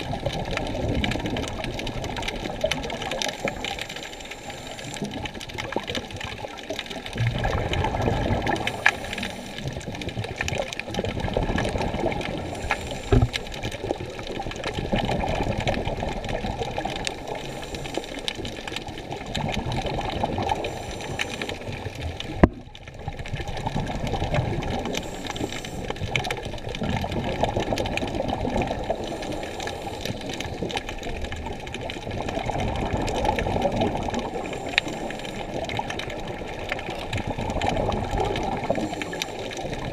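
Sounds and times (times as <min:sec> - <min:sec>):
muffled underwater water sloshing: 0:00.0 - 0:39.9.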